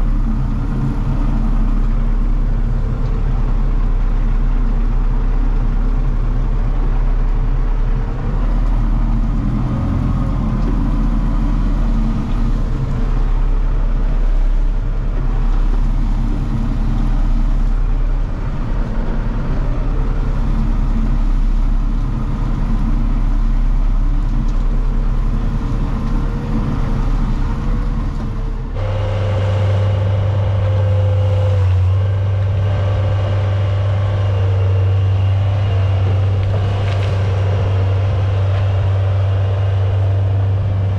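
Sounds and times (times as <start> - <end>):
truck engine running under load: 0.0 - 40.9.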